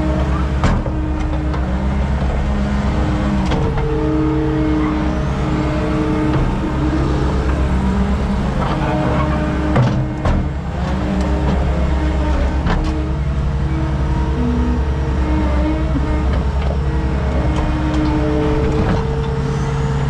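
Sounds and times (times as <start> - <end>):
skid steer engine running: 0.0 - 20.0.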